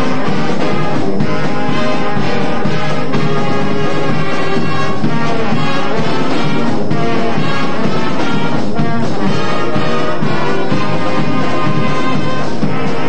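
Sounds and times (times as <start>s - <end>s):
marching band brass playing: 0.0s - 13.0s.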